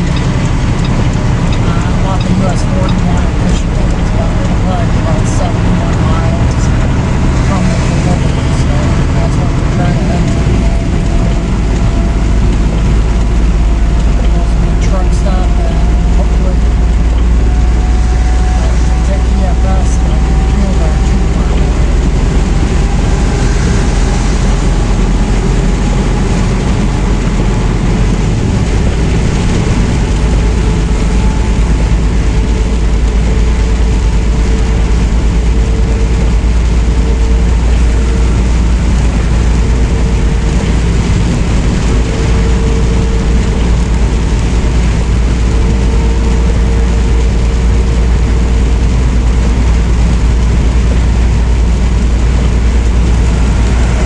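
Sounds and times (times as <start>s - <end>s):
diesel truck engine drone: 0.0s - 54.0s
road noise: 0.0s - 54.0s.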